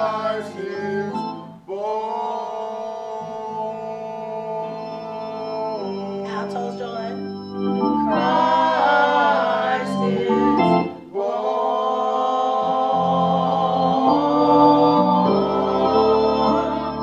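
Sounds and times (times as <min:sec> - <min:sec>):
choir singing: 0:00.0 - 0:07.0, 0:07.8 - 0:17.0
organ: 0:00.0 - 0:17.0.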